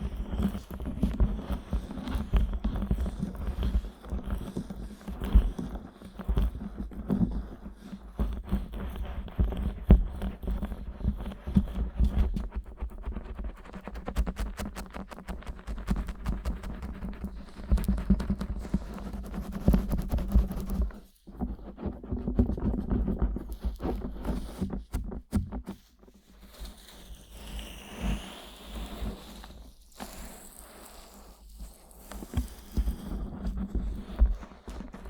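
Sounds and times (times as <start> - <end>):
fingers rubbing microphone: 0.0 - 26.7, 31.9 - 35.0.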